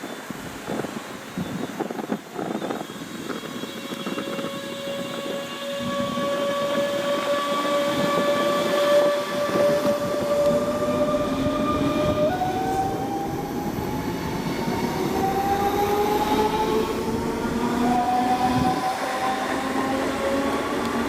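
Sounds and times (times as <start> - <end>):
train running rumble: 1.8 - 21.0
electric train motor whine: 3.6 - 21.0.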